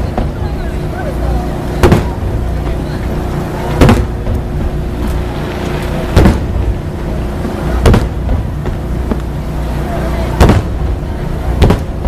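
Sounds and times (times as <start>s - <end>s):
fireworks booming: 0.0s - 12.0s
low rumble: 0.0s - 12.0s.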